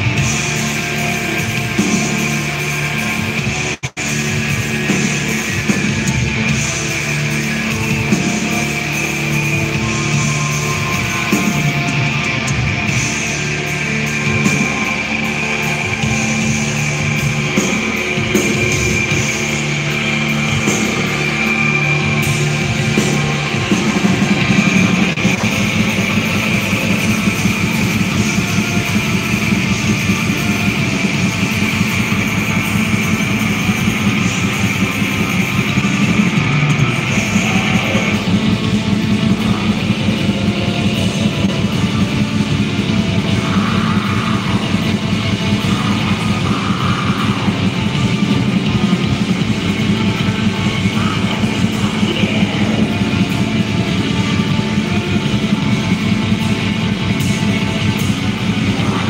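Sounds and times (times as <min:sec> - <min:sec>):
distorted electric guitars: 0:00.0 - 0:59.0
fast drum kit: 0:00.0 - 0:59.0.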